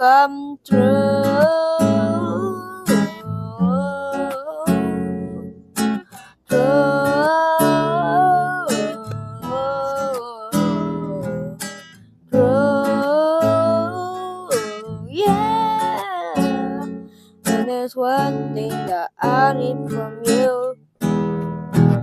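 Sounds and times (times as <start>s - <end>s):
person singing wordless melody: 0.0s - 20.9s
acoustic guitar playing: 0.0s - 22.0s.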